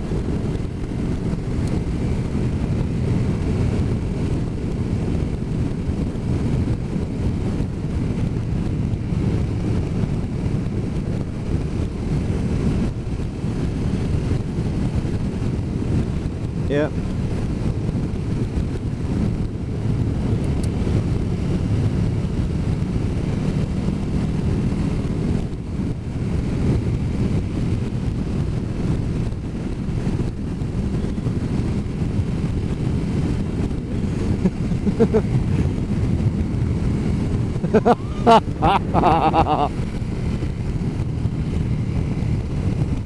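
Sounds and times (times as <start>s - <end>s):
motorcycle engine: 0.0s - 43.0s
road noise: 0.0s - 43.0s
wind rushing over microphone: 0.0s - 43.0s.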